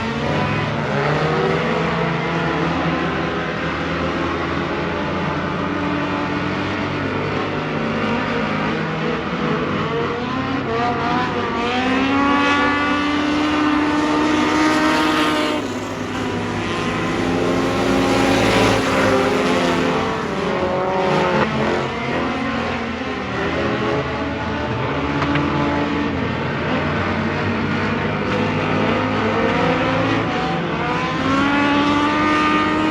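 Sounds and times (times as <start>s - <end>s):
race car engines revving: 0.0s - 32.9s.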